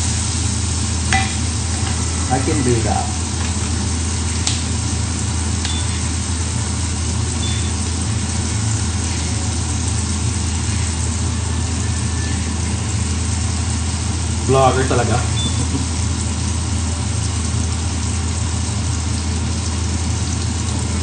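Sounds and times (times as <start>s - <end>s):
low hum: 0.0s - 18.3s
onion and garlic sizzling: 0.0s - 21.0s.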